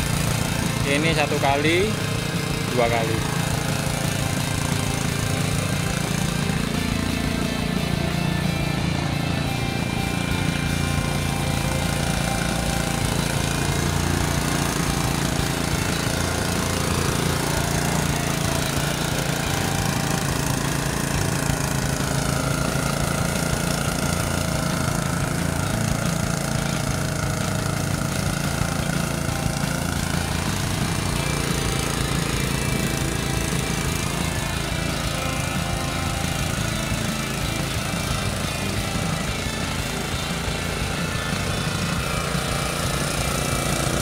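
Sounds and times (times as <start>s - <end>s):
tiller engine running: 0.0s - 44.0s.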